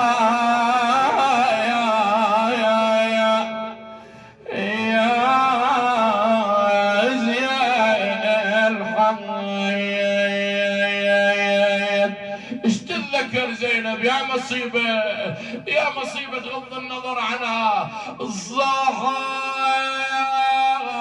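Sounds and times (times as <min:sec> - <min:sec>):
man chanting a lament: 0:00.0 - 0:21.0.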